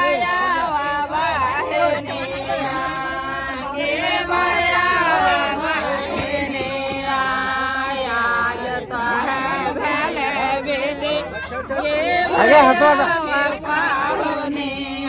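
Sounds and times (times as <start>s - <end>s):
women singing in chorus: 0.0s - 15.0s.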